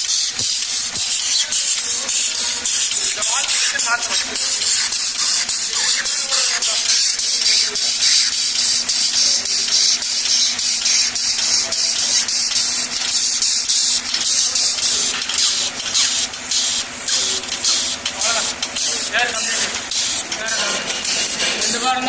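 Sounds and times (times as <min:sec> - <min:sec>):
compressed air hissing in pulses: 0:00.0 - 0:22.0.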